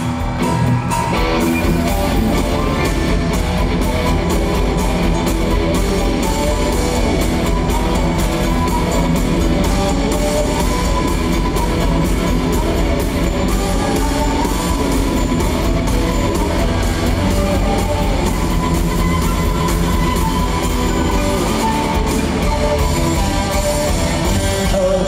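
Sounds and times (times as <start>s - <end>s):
bass guitar: 0.0s - 25.0s
drum kit: 0.0s - 25.0s
electric guitar: 0.0s - 25.0s
flute line: 0.0s - 25.0s.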